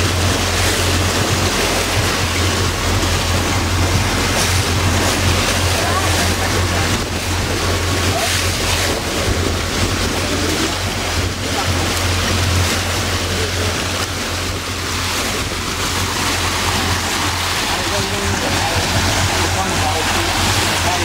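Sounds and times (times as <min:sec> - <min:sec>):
boat engine drone: 0:00.0 - 0:21.0
waves washing against hull: 0:00.0 - 0:21.0
wind buffeting microphone: 0:00.0 - 0:21.0.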